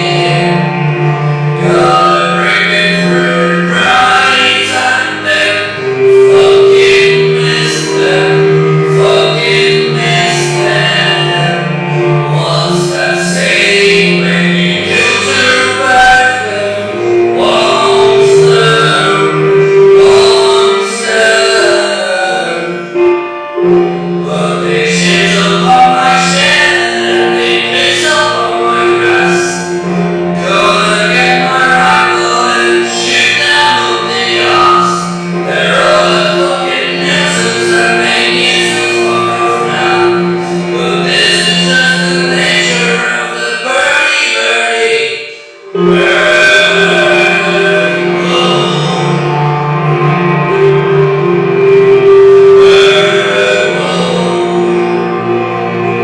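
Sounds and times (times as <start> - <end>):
instrumental backing music: 0.0 - 56.0
low drone: 0.0 - 56.0
man singing: 0.0 - 56.0.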